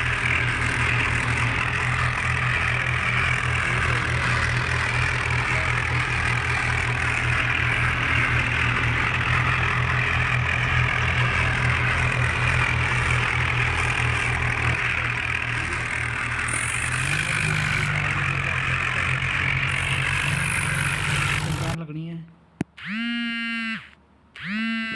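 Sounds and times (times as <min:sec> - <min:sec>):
tractor diesel engine running: 0:00.0 - 0:21.9, 0:22.6 - 0:24.9.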